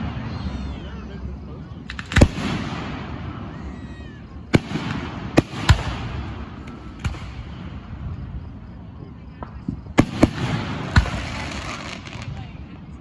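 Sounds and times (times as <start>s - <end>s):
fireworks bursting with bangs: 0.0s - 1.2s, 1.8s - 13.0s
crackling hiss and low rumble: 0.0s - 13.0s.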